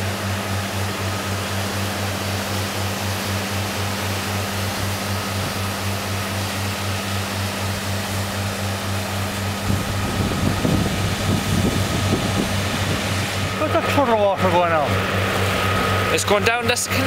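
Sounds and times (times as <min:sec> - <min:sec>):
low buffeting: 0:00.0 - 0:17.0
low pulsing hum: 0:00.0 - 0:17.0
steady rushing noise: 0:00.7 - 0:17.0.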